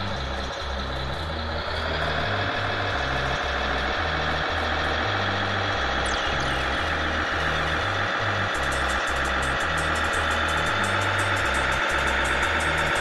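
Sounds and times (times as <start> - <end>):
music with pulsing bass line: 0.0 - 13.0.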